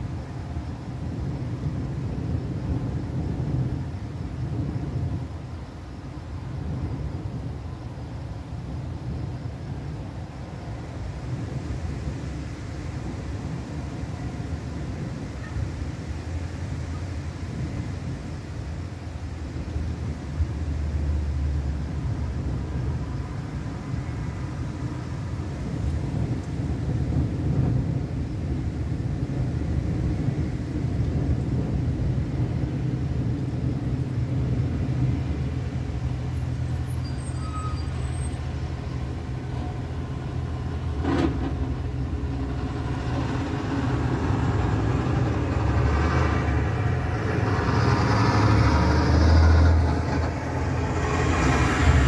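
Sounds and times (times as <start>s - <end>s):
train rumbling past: 0.0s - 52.0s.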